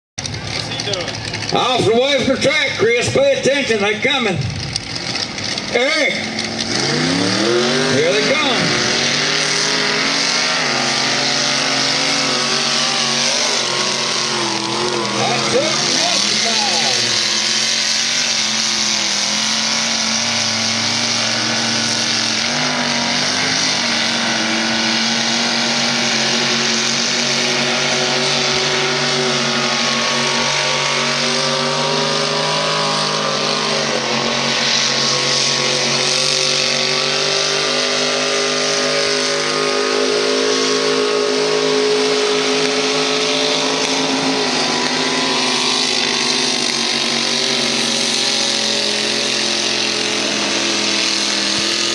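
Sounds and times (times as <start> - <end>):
truck engine revving high: 0.2 - 51.9.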